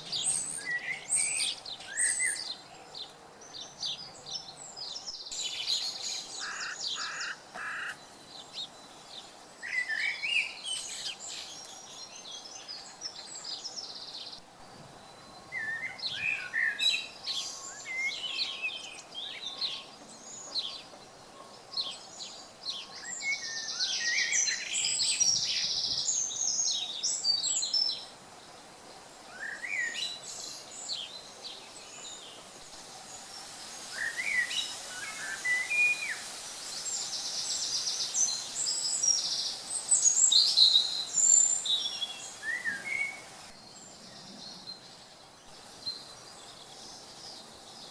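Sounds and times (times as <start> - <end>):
faint steady hiss: 0.0 - 47.9
songbirds singing: 0.0 - 47.9.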